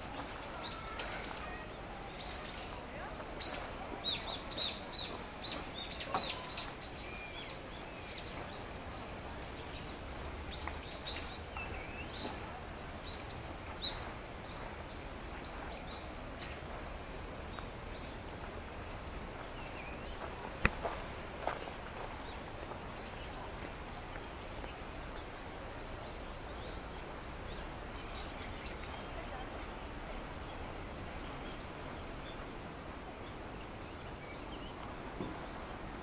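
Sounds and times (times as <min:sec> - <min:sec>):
small birds chirping: 0:00.0 - 0:36.0
steady background hiss: 0:00.0 - 0:36.0.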